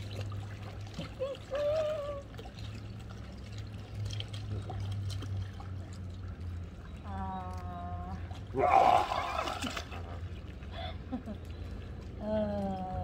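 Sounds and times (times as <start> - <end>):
pool water lapping and splashing: 0.0 - 13.0.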